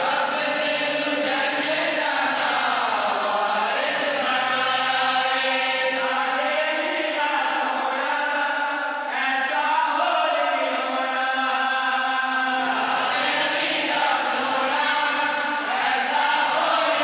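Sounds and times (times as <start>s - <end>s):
men chanting in long held notes: 0.0s - 17.0s.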